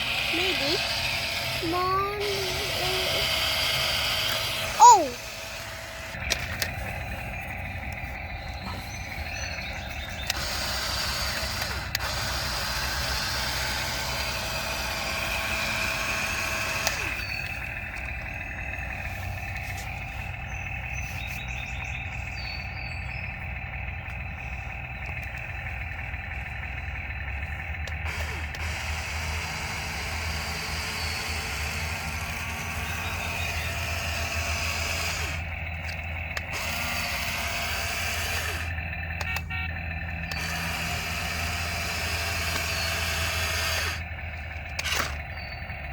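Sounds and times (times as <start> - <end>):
rising mechanical whine: 0.0 - 45.9
toy excavator mechanical drone: 0.0 - 45.9.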